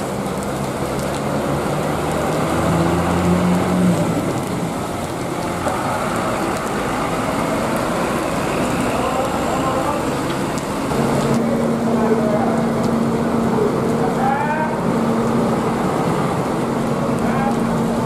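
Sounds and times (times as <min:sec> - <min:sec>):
large vehicle engine humming: 0:00.0 - 0:18.0
rain patter: 0:00.0 - 0:18.0.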